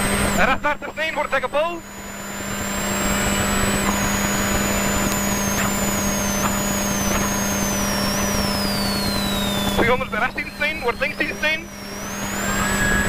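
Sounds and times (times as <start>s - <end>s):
high whine falling in pitch: 0.0s - 13.0s.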